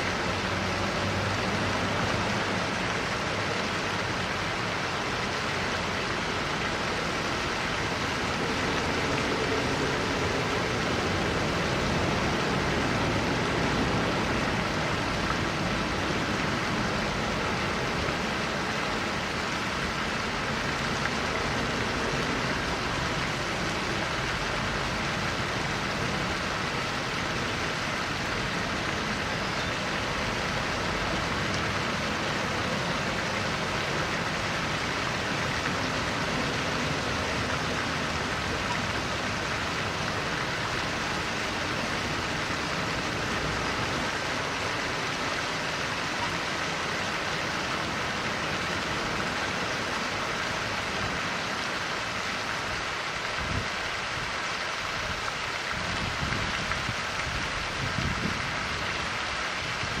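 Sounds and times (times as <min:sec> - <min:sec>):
water rushing: 0:00.0 - 1:00.0.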